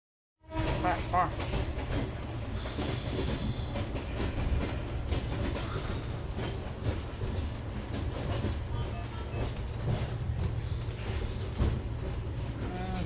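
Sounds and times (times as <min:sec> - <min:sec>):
train car rolling on rails: 0:00.4 - 0:13.0.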